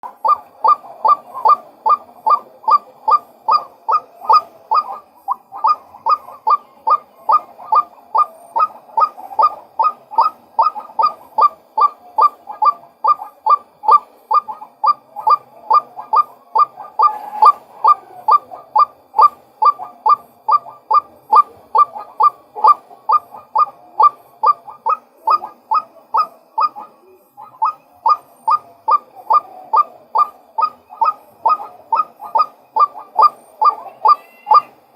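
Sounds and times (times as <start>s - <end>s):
waterhen calling: 0.1s - 34.9s.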